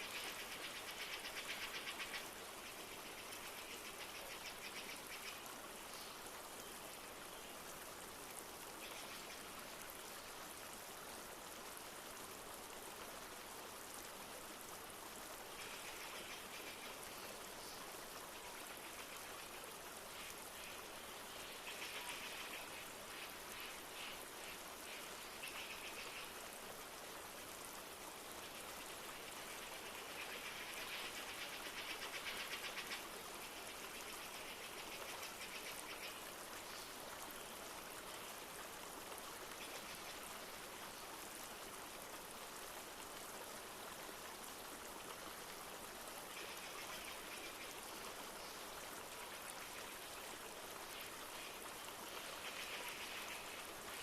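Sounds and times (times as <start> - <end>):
light rain falling: 0.0 - 54.0
river flowing: 0.0 - 54.0.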